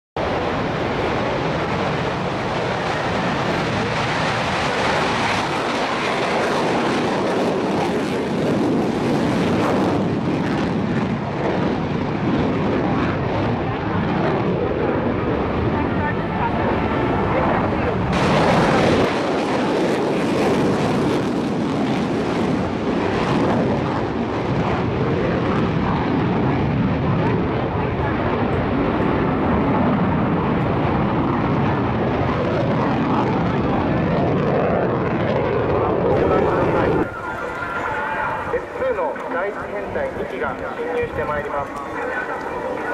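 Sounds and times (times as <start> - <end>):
jet engine roaring: 0.2 - 42.9.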